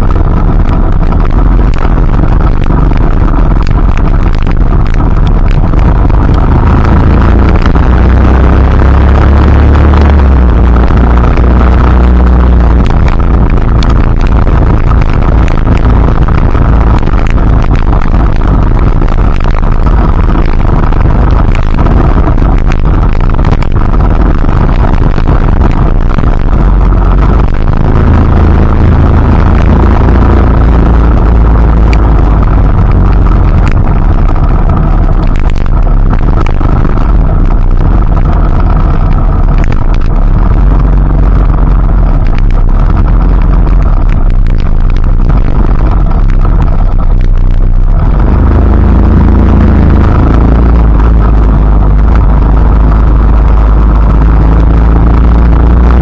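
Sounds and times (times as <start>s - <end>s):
deep rumble: 0.0s - 56.0s.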